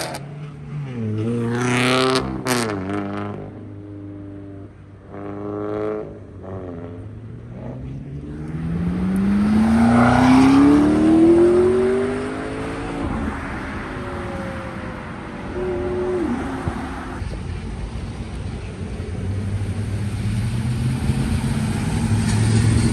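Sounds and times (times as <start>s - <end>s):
car engine accelerating hard: 0.0s - 17.2s, 17.9s - 22.9s.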